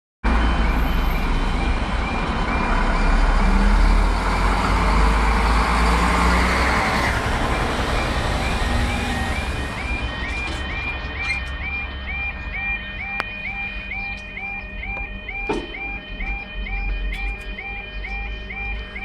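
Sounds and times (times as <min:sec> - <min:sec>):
heavy rumbling noise: 0:00.3 - 0:18.7
level crossing alarm: 0:00.3 - 0:19.0.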